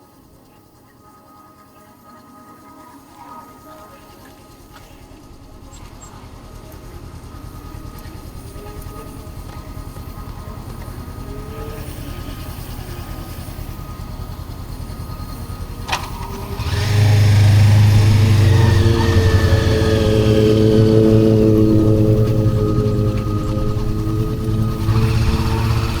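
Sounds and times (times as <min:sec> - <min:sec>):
loud steady held tones: 0:03.9 - 0:26.0
motorcycle engine running: 0:04.8 - 0:26.0.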